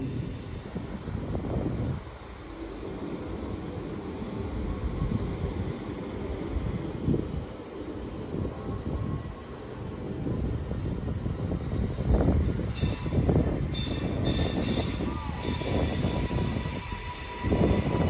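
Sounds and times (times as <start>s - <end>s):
train wheels squealing: 0.0s - 0.7s, 3.4s - 18.0s
train rumbling: 0.0s - 18.0s.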